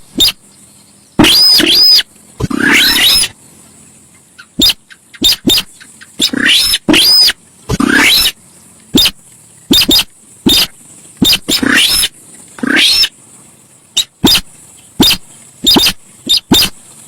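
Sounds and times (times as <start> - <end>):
bird harsh calls: 0.0 - 0.4, 1.1 - 3.4, 4.3 - 13.2, 14.0 - 16.8.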